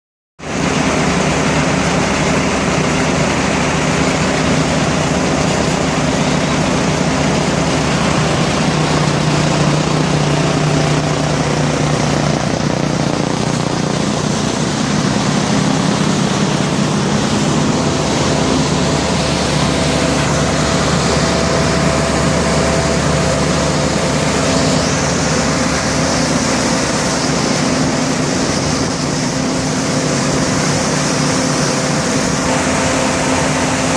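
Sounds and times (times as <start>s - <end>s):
screening plant mechanical drone: 0.5s - 33.9s
steady humming tones: 0.5s - 33.9s.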